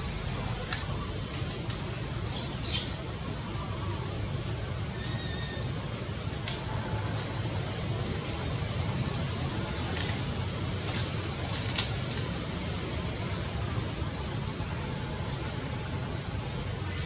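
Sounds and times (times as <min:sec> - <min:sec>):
dry leaves crackling: 0:00.0 - 0:17.0
low background noise: 0:00.0 - 0:17.0.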